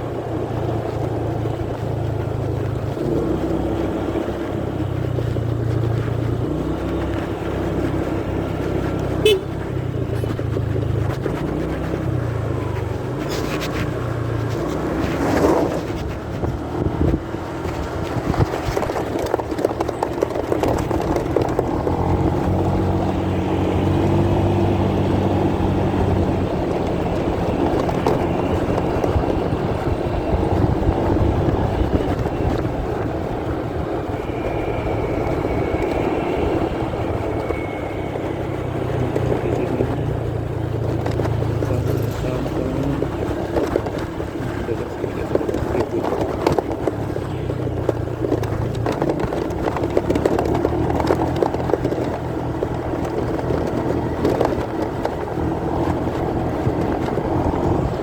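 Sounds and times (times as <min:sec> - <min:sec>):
muffled motorcycle engine hum: 0:00.0 - 0:58.0
road rumble: 0:00.0 - 0:58.0.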